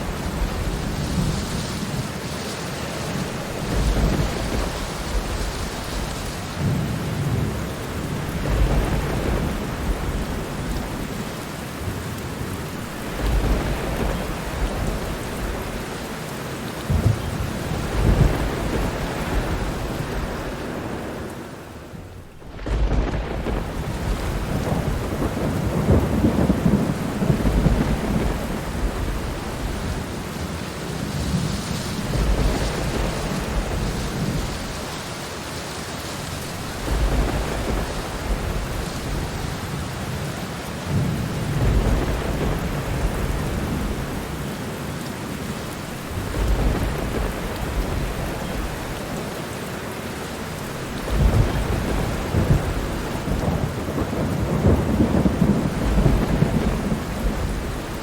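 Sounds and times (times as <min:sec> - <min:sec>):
low thunder rumbling: 0:00.0 - 0:35.1, 0:36.2 - 0:49.4, 0:50.2 - 0:58.0
heavy rain falling: 0:00.0 - 0:58.0.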